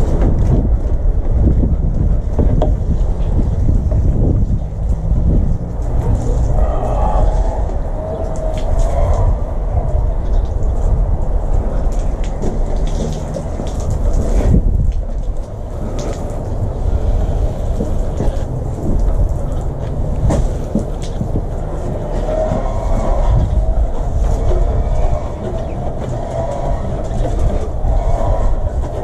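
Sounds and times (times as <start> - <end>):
low rumble: 0.0 - 29.0
water jets spraying: 0.0 - 29.0.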